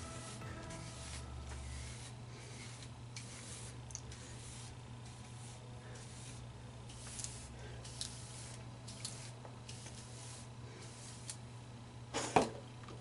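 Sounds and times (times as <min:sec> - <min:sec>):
comb scratching through hair: 0:00.0 - 0:11.4.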